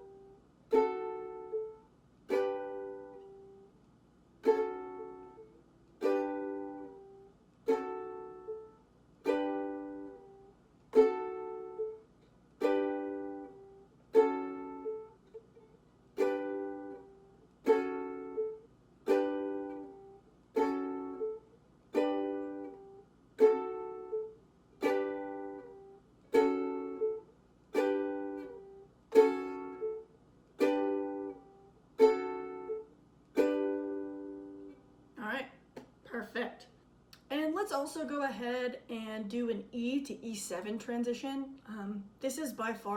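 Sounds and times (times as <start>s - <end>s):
ukulele chords strummed slowly: 0.0s - 3.8s, 4.4s - 35.1s.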